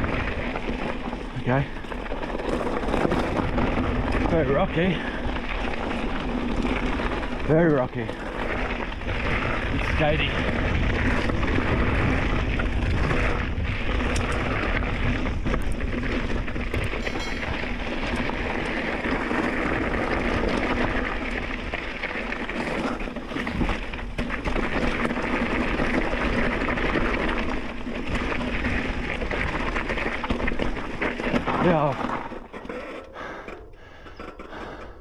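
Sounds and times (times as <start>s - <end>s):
wind rumbling on microphone: 0.0s - 32.5s
bike knocking and rattling: 0.0s - 35.0s
bike tyres rushing on dirt: 0.0s - 35.0s.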